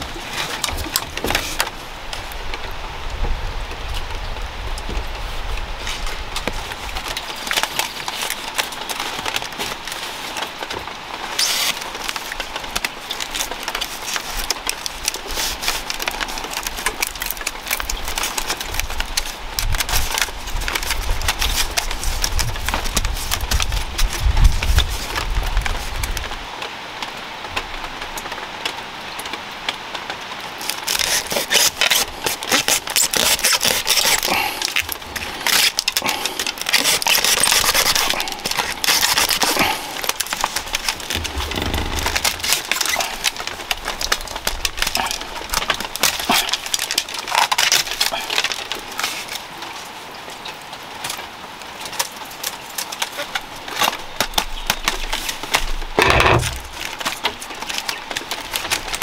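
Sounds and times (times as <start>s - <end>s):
bamboo strips crackling: 0.0s - 2.8s, 5.2s - 26.4s, 30.3s - 59.0s.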